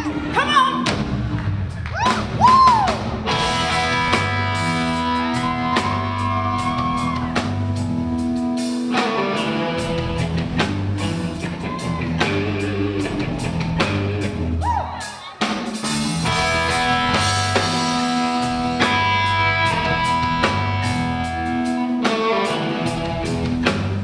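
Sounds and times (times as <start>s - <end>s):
bass guitar: 0.0s - 24.0s
drum kit beat: 0.0s - 24.0s
electric guitar: 0.0s - 24.0s.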